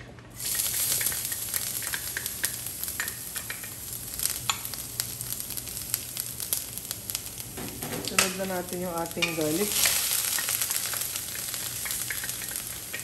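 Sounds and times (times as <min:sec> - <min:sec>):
ginger sizzling in hot oil: 0:00.3 - 0:13.0.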